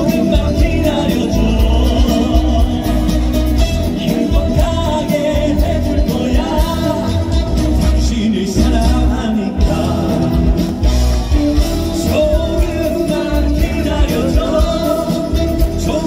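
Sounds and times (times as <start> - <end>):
man singing into a microphone: 0.0 - 10.8, 11.9 - 16.0
live band playing: 0.0 - 16.0.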